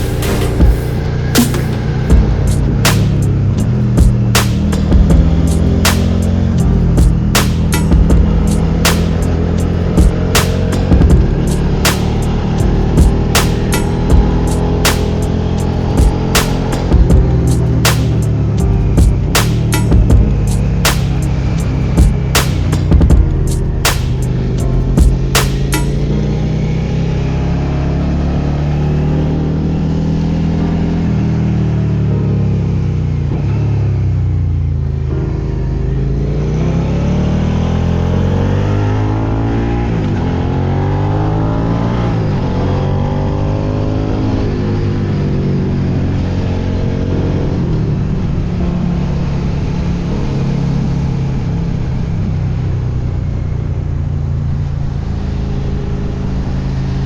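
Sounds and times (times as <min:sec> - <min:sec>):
motorcycle engine accelerating: 0:00.0 - 0:35.2, 0:35.9 - 0:57.0.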